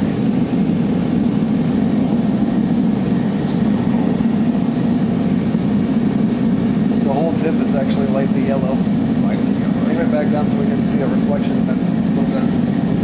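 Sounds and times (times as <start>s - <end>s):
gas torch flame roaring: 0.0s - 13.0s.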